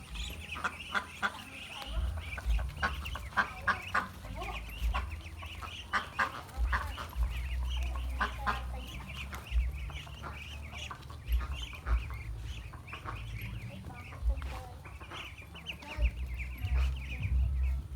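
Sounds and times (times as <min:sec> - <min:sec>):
poultry clucking: 0:00.0 - 0:17.9
low rumble: 0:01.8 - 0:15.1, 0:16.0 - 0:17.9.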